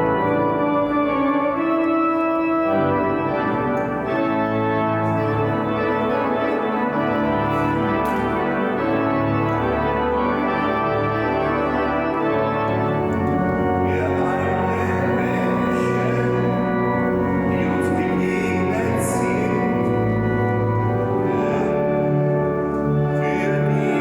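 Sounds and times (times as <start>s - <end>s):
pipe organ playing held chords: 0.0s - 24.0s.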